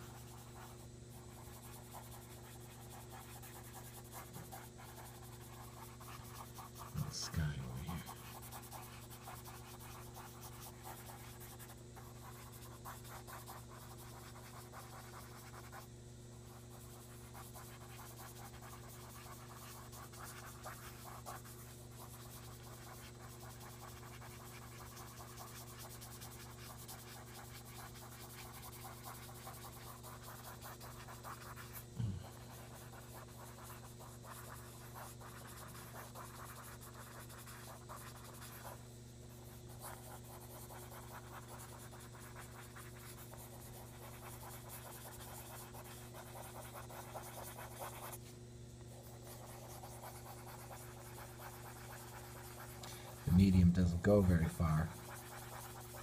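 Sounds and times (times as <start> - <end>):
steady low hum: 0.0 - 22.6, 29.4 - 56.0
cotton swab rubbing on paper: 0.0 - 56.0.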